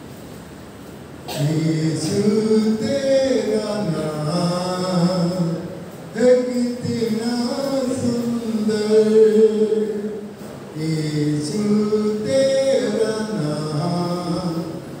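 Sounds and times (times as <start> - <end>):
man singing a hymn: 1.3 - 15.0.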